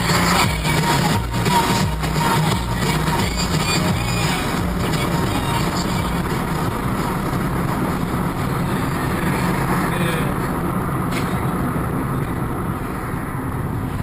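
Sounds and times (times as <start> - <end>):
moving vehicle engine and road noise: 0.0 - 14.0.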